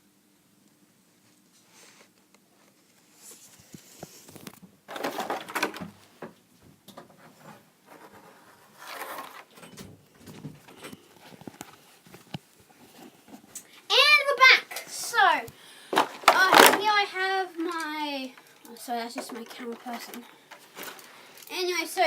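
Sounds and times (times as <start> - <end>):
rustling and handling noises: 1.2 - 22.0.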